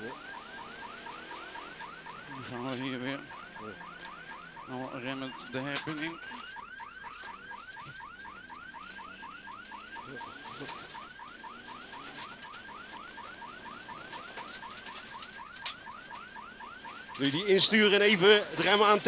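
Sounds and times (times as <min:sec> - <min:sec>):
electronic siren yelping: 0:00.0 - 0:19.0.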